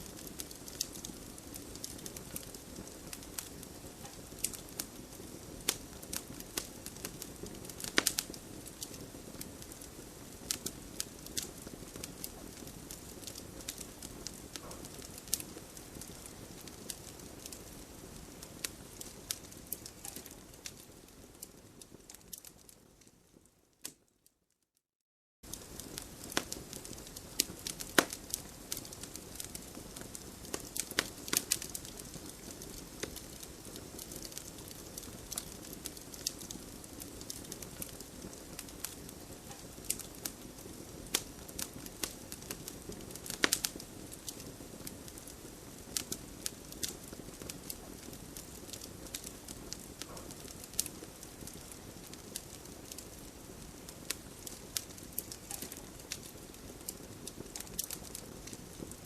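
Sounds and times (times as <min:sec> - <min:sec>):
campfire flame rushing: 0:00.0 - 0:22.4, 0:25.5 - 0:59.0
fire crackles and pops: 0:00.0 - 0:24.3, 0:25.4 - 0:59.0.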